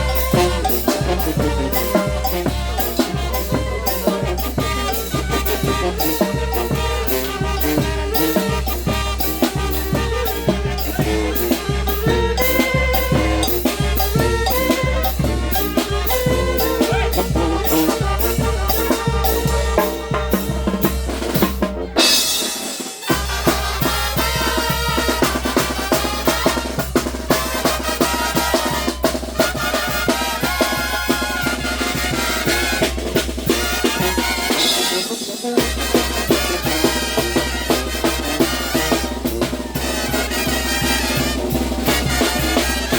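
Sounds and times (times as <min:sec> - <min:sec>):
brass band playing upbeat music: 0:00.0 - 0:42.9.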